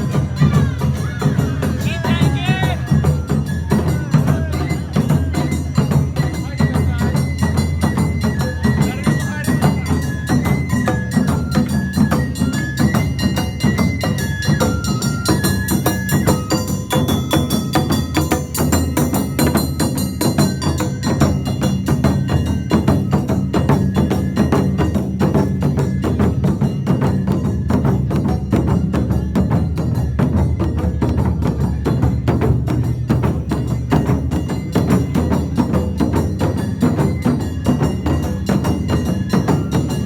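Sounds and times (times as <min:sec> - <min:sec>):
clanging and drumming percussion: 0:00.0 - 0:40.0.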